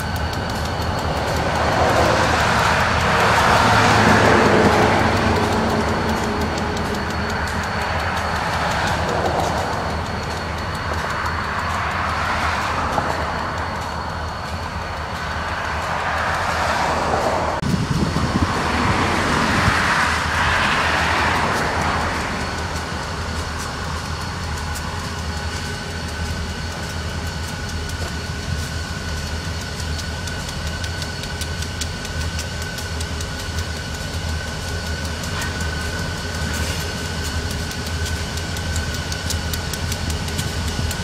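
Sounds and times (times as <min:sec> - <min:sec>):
diesel locomotive engine rumble: 0:00.0 - 0:41.0.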